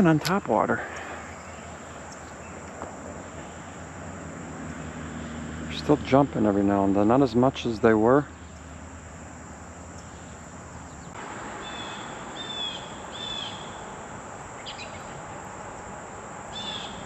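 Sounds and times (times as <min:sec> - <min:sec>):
bird chirping: 0:00.0 - 0:13.9, 0:14.6 - 0:15.3, 0:16.5 - 0:17.0
creek hiss: 0:00.0 - 0:17.0.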